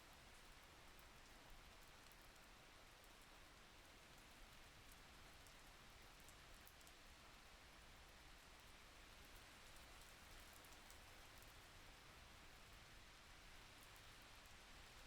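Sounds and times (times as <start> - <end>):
faint steady rain: 0.0 - 15.0.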